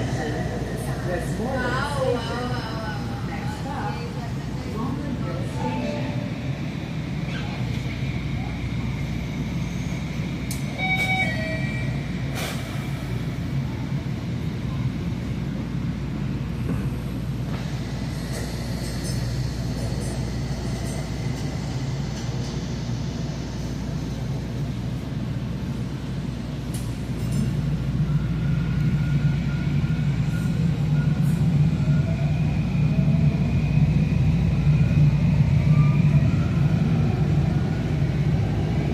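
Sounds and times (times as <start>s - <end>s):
train low rumble: 0.0s - 38.9s.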